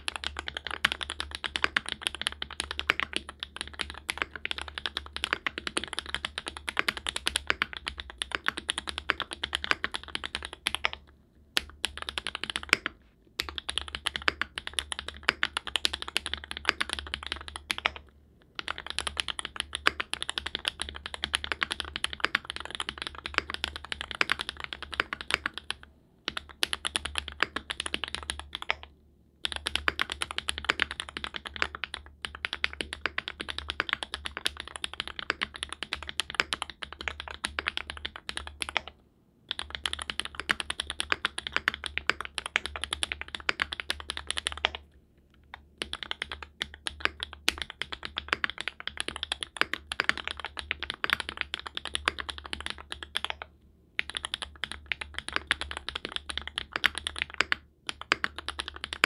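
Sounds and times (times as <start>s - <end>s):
fast typing on mechanical keyboard: 0.0s - 44.9s, 45.5s - 59.0s.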